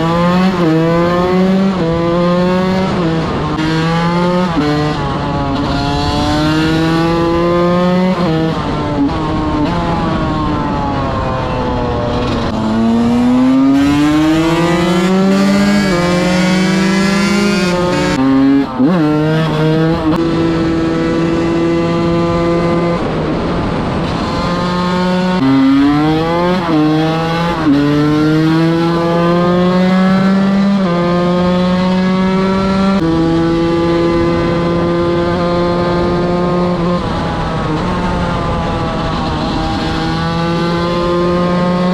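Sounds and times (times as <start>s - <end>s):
two-stroke motorcycle engine revving: 0.0s - 10.5s, 11.8s - 41.9s.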